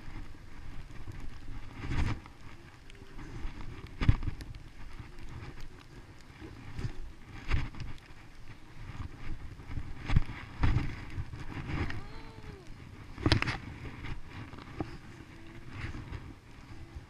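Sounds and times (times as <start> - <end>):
skis sliding over snow: 0.0 - 17.0
wind on microphone: 0.0 - 17.0.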